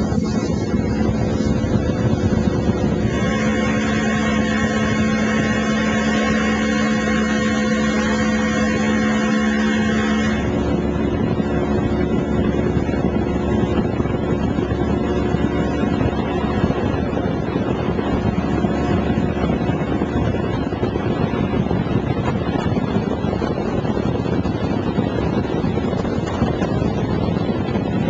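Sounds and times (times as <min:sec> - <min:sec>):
motorboat engine running: 0:00.0 - 0:28.0
wind buffeting microphone: 0:00.0 - 0:28.0.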